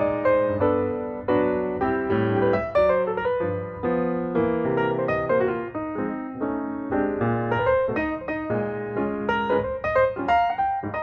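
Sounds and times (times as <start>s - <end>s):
jazz piano chords: 0.0s - 11.0s.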